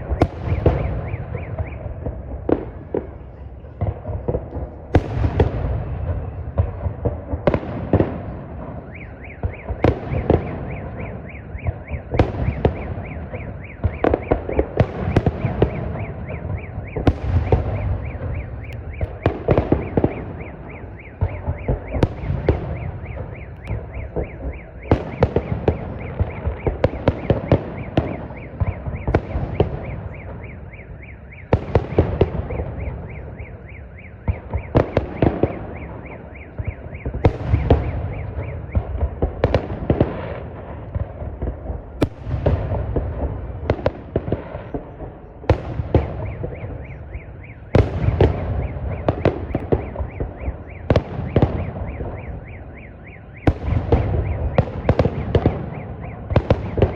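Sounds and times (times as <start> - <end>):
rolling rumble and echo: 0.0 - 56.9.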